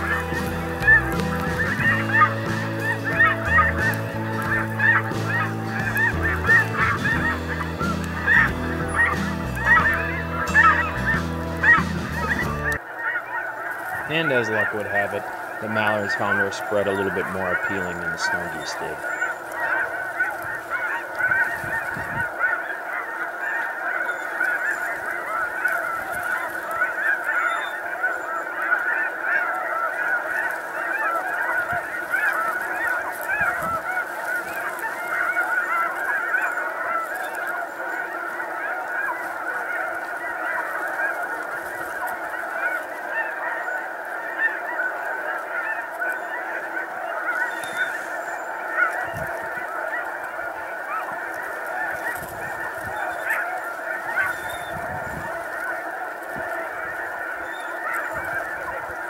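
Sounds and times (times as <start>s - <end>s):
geese honking chorus: 0.0s - 59.0s.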